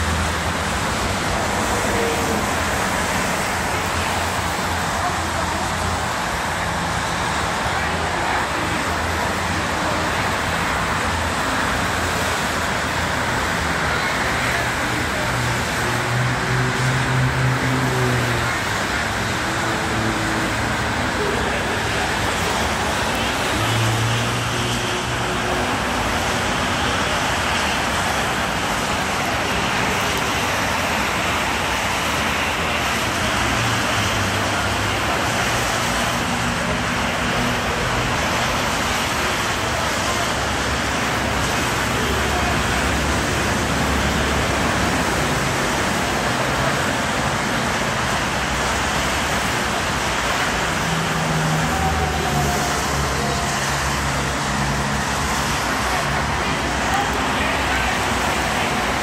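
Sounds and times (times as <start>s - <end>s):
cars passing on expressway: 0.0s - 59.0s.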